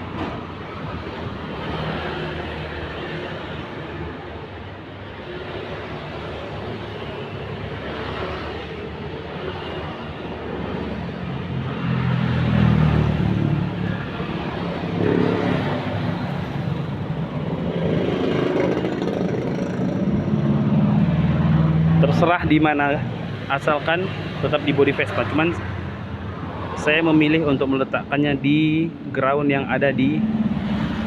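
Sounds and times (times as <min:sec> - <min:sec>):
vehicle engines humming: 0:00.0 - 0:31.0.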